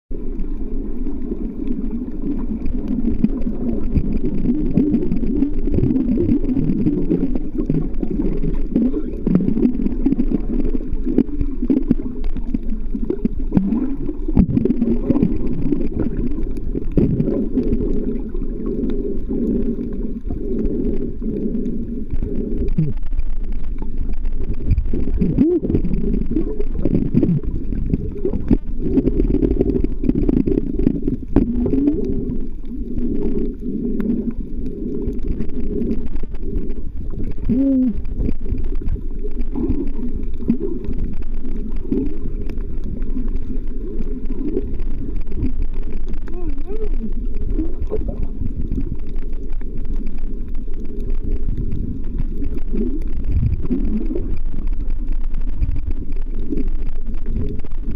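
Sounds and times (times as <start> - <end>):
faint underwater clicks: 0.1 - 57.9
underwater rumble and gurgling: 0.1 - 57.9.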